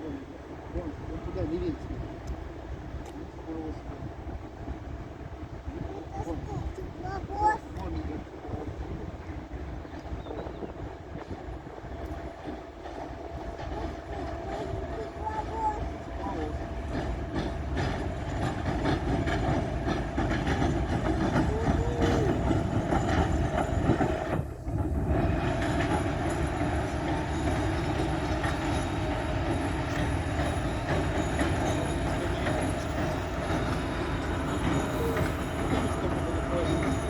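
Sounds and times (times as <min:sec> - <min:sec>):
diesel locomotive running: 0:00.0 - 0:37.0.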